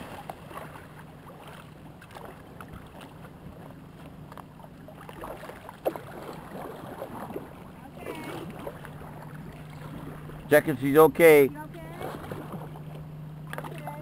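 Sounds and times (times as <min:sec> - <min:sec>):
paddles splashing in water: 0:00.0 - 0:14.0
water lapping against hulls: 0:00.0 - 0:14.0.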